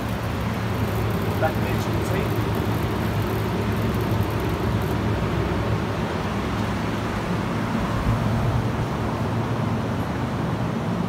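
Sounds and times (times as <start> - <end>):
fans rushing air: 0.0 - 9.4
constant low hum: 0.0 - 11.0.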